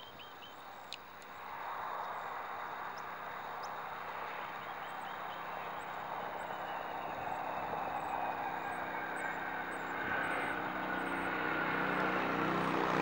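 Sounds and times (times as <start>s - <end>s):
jet engines rushing: 1.4s - 13.0s.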